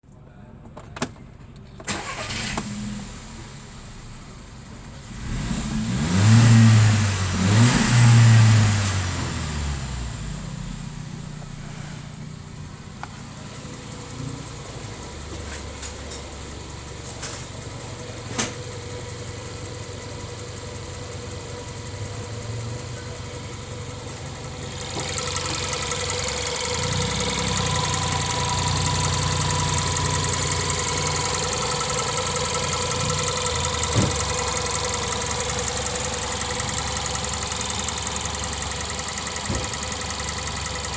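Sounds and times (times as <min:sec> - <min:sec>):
car engine starting and idling: 0:01.1 - 0:40.9.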